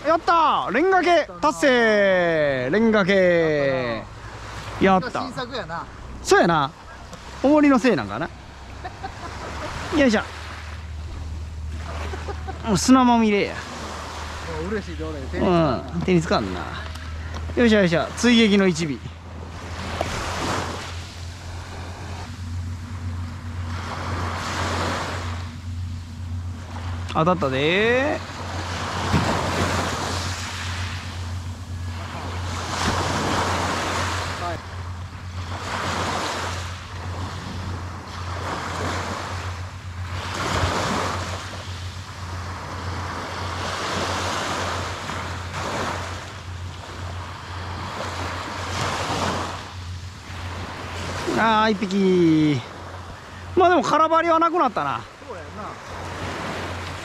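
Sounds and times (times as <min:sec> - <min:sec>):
small waves washing onto shore: 0:00.0 - 0:57.0
steady low hum: 0:00.0 - 0:57.0.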